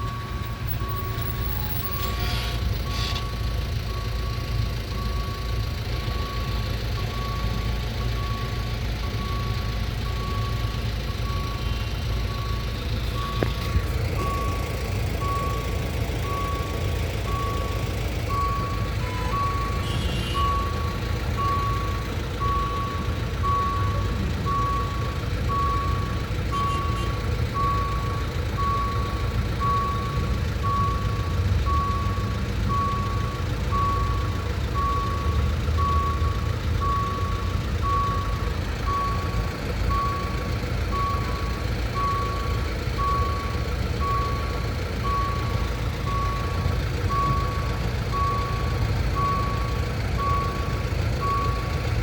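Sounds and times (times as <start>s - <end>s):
electronic warning beep: 0.0s - 51.8s
train engine rumble: 0.0s - 52.0s.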